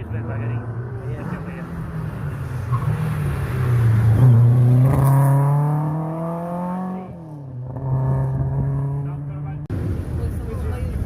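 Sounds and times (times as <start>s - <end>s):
rally car engine accelerating: 0.6s - 9.7s.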